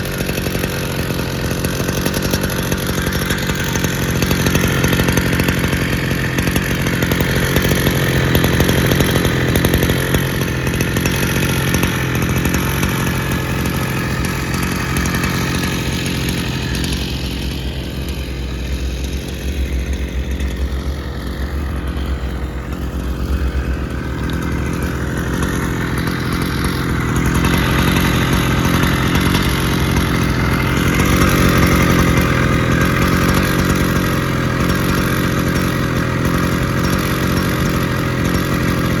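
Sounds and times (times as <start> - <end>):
brush cutter engine revving: 0.0 - 39.0.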